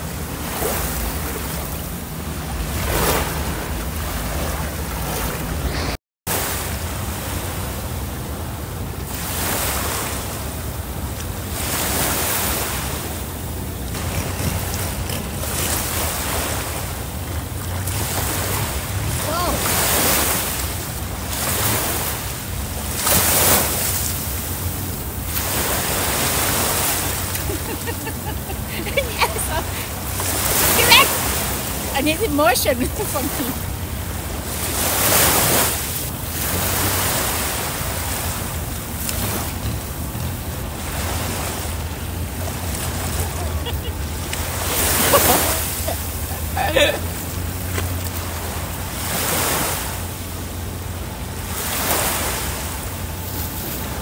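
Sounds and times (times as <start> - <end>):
rushing sea water: 0.0 - 54.0.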